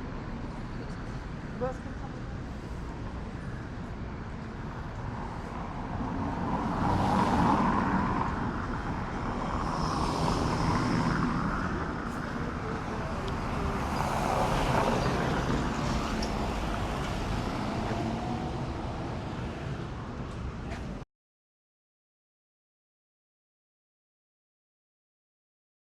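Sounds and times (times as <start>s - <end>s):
cars passing on street: 0.0s - 21.0s.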